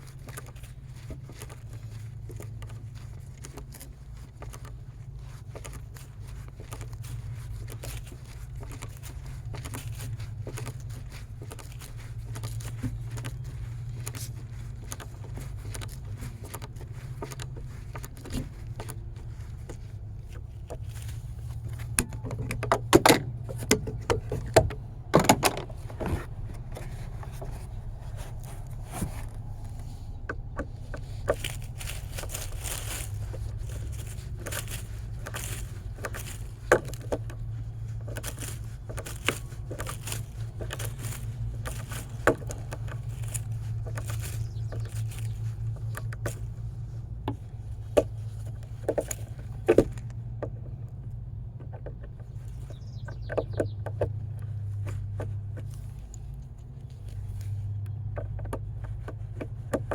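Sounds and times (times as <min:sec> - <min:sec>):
steady low hum: 0:00.0 - 0:59.9
sharp clicks and knocks: 0:00.2 - 0:59.9.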